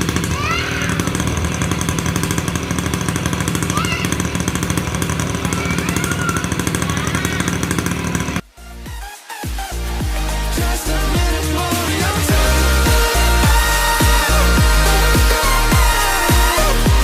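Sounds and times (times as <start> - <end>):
two-stroke motorcycle engine running: 0.0 - 8.5, 9.9 - 17.0.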